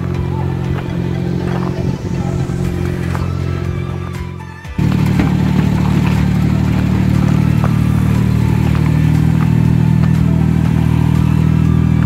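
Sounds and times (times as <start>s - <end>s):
engine humming steadily: 0.0s - 12.0s.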